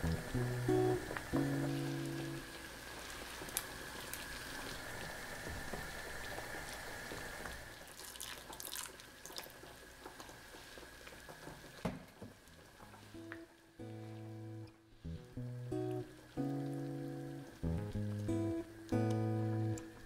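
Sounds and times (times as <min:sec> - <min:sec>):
soup boiling with bubbles popping: 0:00.0 - 0:20.0.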